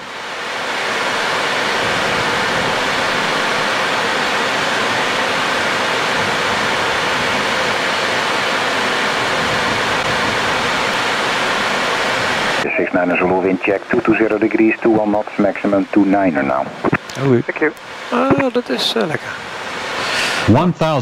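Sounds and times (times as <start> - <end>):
air rushing around cockpit: 0.0 - 20.6.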